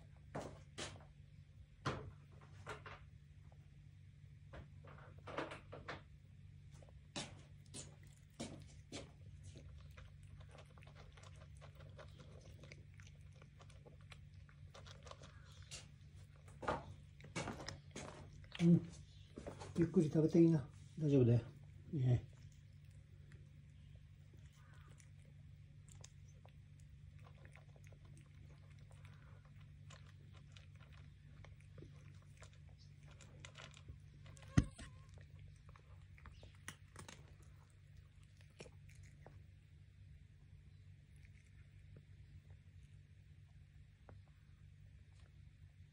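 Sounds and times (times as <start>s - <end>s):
cat chewing food: 0.0s - 45.9s
low steady hum: 0.0s - 45.9s.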